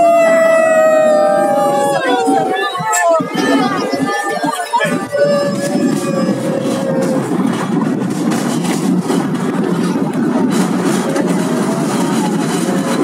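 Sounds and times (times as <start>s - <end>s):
cable car rumbling on track: 0.0s - 13.0s.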